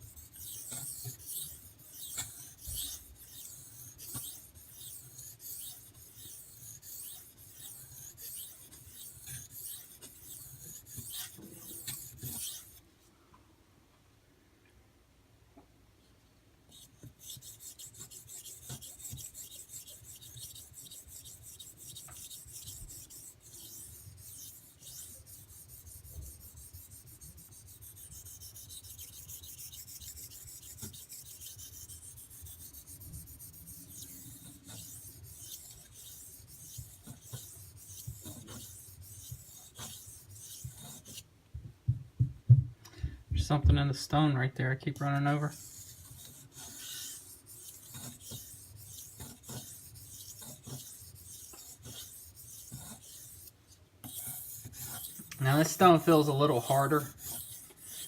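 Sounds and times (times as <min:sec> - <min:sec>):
knife sharpening on whetstone: 0:00.1 - 0:12.8, 0:16.7 - 0:41.2, 0:45.5 - 0:58.0.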